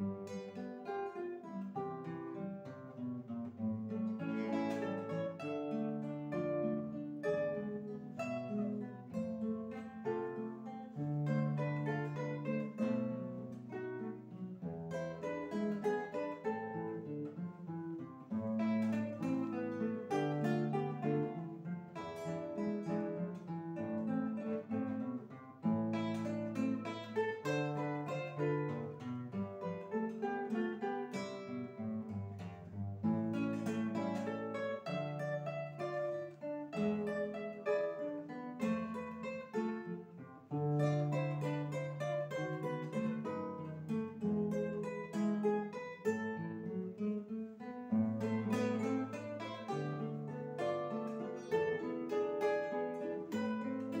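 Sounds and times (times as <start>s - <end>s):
classical guitars duet: 0.0s - 54.0s.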